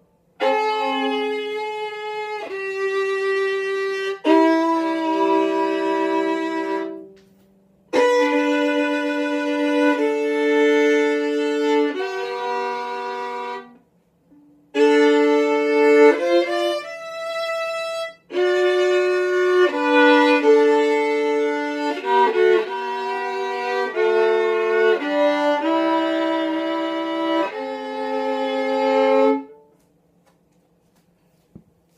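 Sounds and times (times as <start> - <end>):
solo violin melody: 0.0 - 29.7.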